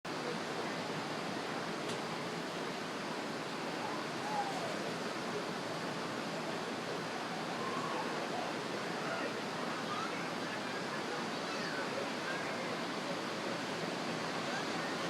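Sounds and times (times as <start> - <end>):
ocean surf washing onto beach: 0.1 - 15.0.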